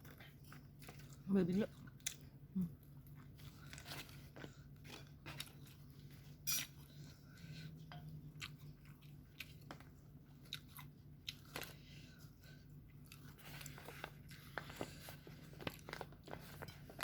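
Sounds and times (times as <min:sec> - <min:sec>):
faint low hum: 0:00.0 - 0:17.0
person chewing and crunching food: 0:00.0 - 0:17.0.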